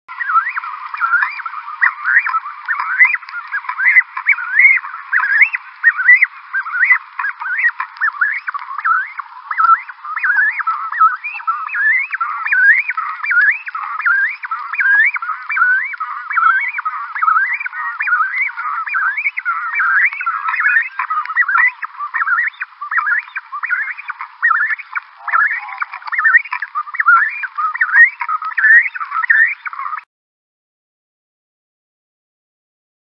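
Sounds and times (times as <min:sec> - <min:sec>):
cormorants calling: 0:00.1 - 0:30.1.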